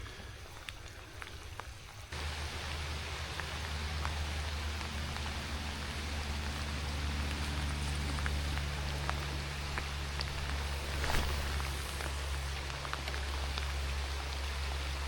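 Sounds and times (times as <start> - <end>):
heavy rain hiss: 0.0 - 15.0
raindrops ticking: 0.0 - 15.0
low rumble: 2.2 - 15.0.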